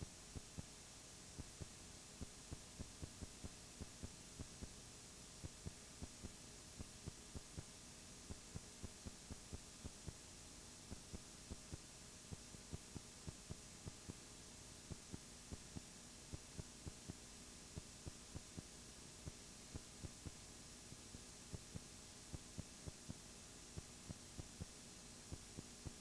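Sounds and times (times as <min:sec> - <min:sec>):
faint hum and hiss: 0:00.0 - 0:26.0.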